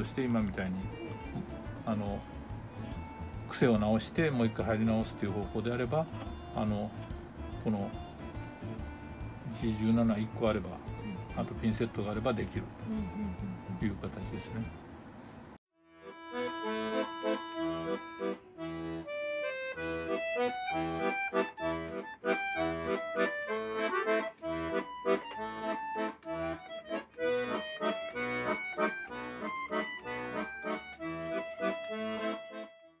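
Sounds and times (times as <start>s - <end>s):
accordion playing a tune: 0.0s - 14.8s, 15.8s - 33.0s.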